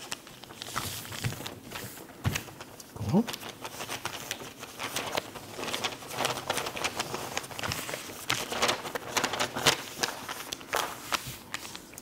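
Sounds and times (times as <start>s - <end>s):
paper rustling and crackling: 0.0s - 12.0s.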